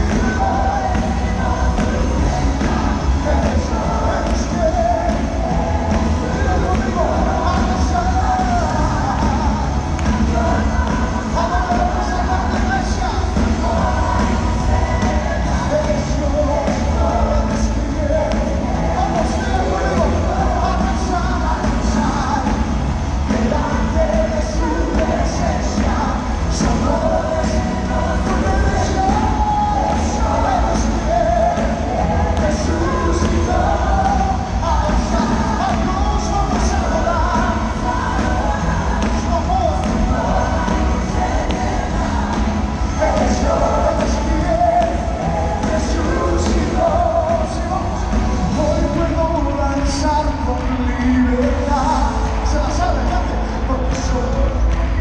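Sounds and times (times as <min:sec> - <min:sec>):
band and singers performing: 0:00.0 - 0:55.0
bass line and drums: 0:00.0 - 0:55.0
worship music over sound system: 0:00.0 - 0:55.0.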